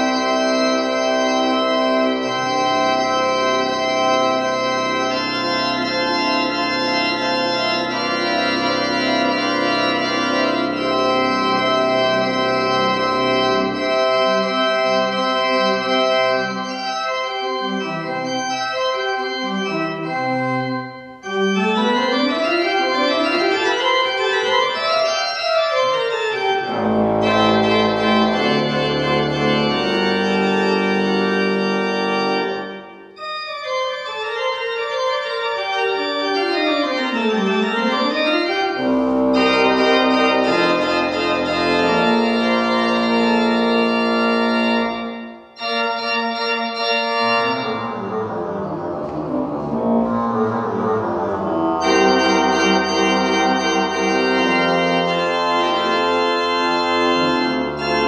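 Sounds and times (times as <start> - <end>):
church organ playing: 0.0 - 58.0.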